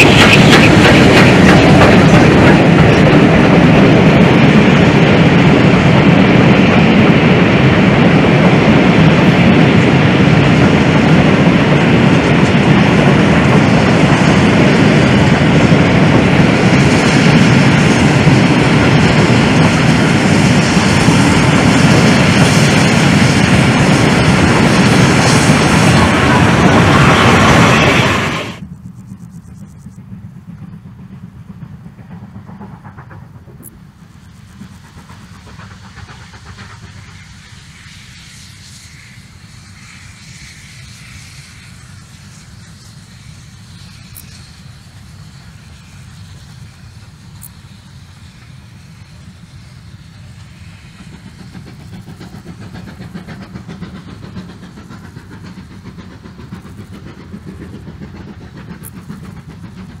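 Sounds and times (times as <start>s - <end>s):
steam exhaust hissing: 0.0s - 60.0s
steam train rumbling past: 0.0s - 60.0s.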